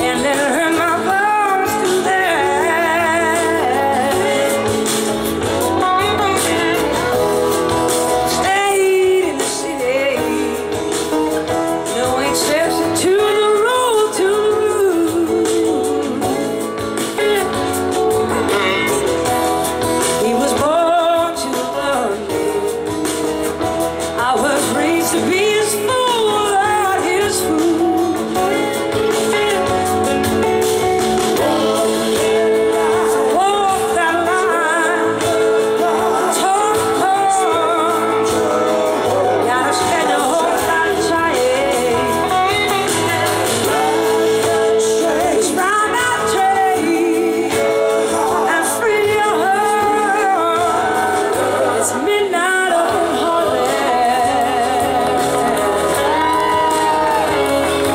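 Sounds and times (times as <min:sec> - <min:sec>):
blues-rock band playing: 0:00.0 - 0:57.9.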